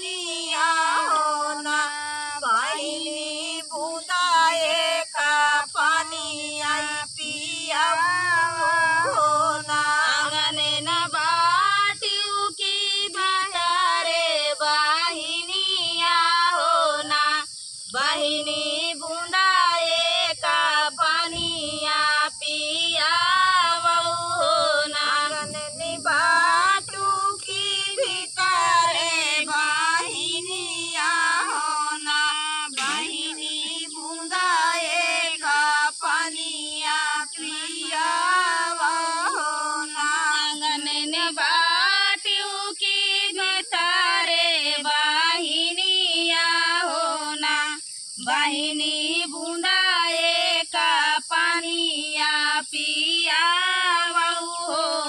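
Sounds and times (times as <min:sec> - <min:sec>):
women singing folk song: 0:00.0 - 0:55.0.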